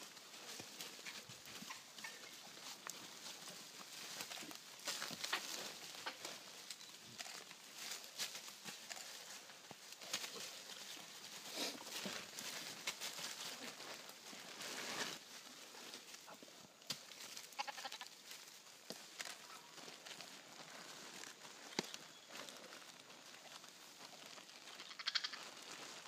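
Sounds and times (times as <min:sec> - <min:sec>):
footsteps on dry leaves: 0:00.0 - 0:26.0.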